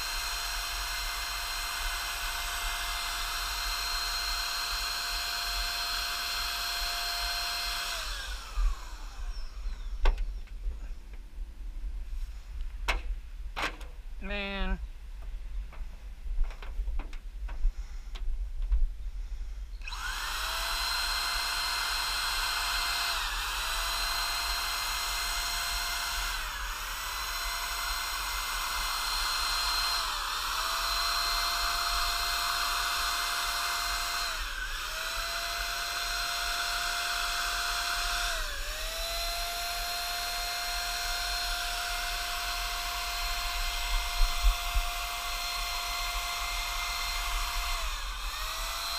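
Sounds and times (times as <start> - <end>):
electric paint sprayer whining: 0.0 - 10.4, 19.8 - 48.9.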